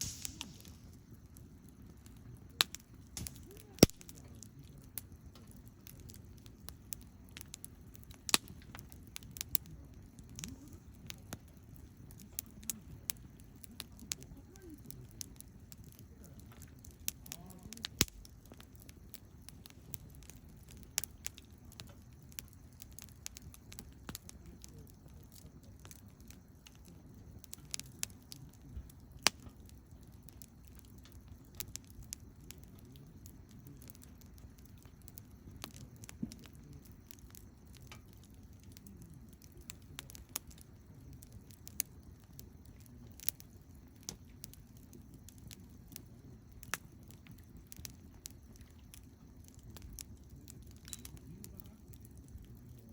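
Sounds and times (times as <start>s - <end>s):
campfire crackling and popping: 0.0s - 52.9s
low rumble of flame: 0.0s - 52.9s.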